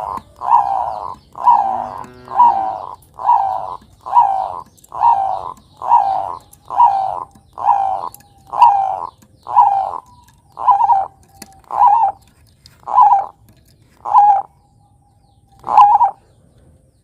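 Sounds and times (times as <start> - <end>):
dove cooing: 0.0 - 14.6, 15.5 - 16.4.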